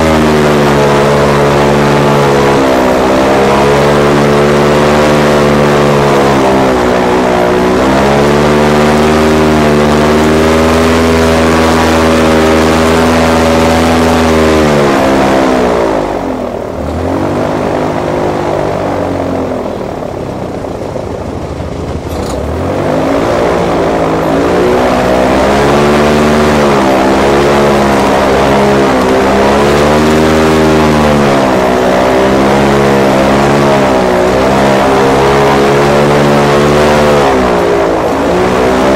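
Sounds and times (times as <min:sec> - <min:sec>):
airboat engine and propeller: 0:00.0 - 0:38.9.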